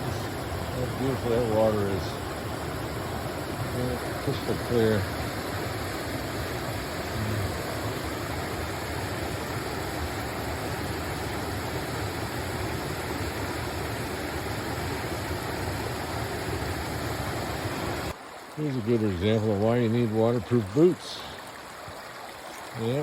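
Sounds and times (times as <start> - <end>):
river rushing over rocks: 0.0 - 19.2.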